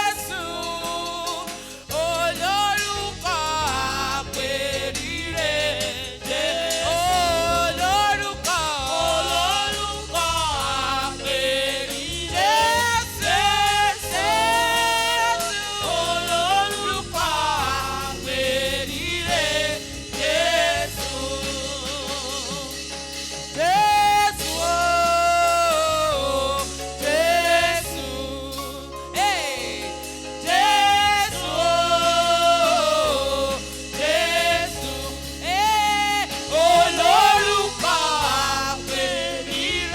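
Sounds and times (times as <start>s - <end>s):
band accompaniment: 0.0s - 39.9s
gospel choir singing: 0.0s - 39.9s.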